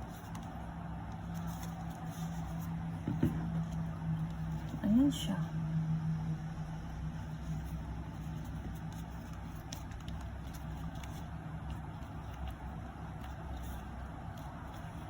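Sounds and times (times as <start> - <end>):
constant rumble: 0.0 - 15.0
low mechanical hum: 0.0 - 15.0.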